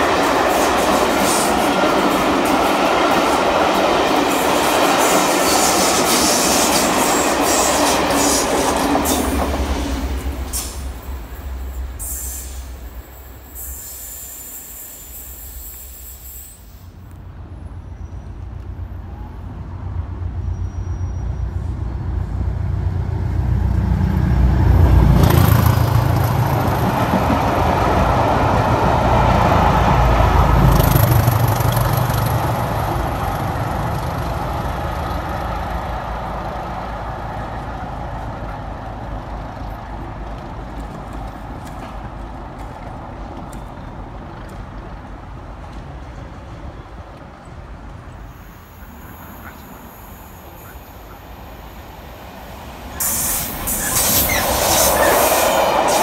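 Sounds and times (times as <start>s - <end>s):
passenger train passing: 0.0s - 56.0s.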